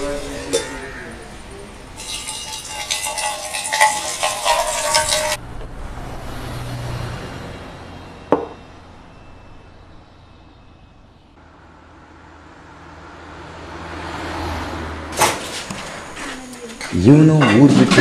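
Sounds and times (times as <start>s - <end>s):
vehicle engine and tyre noise: 0.0s - 17.2s.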